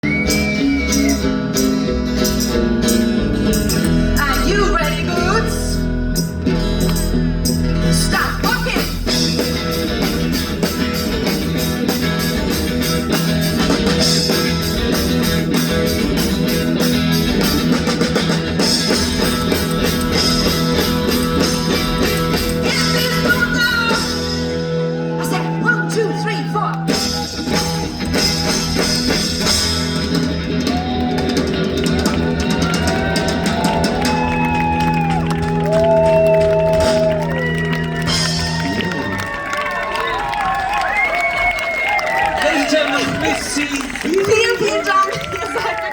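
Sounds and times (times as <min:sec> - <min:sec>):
drums: 0:00.0 - 0:45.9
live rock band playing: 0:00.0 - 0:45.9.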